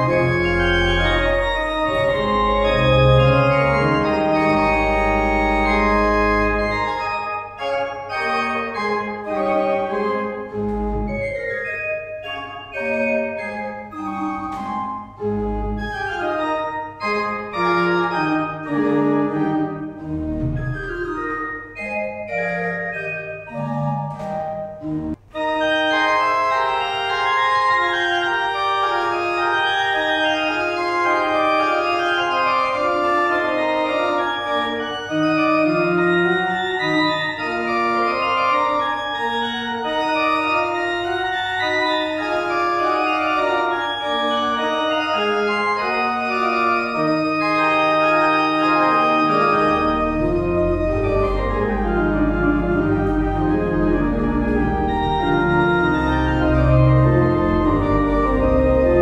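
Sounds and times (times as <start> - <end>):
church pipe organ playing: 0.0 - 59.0.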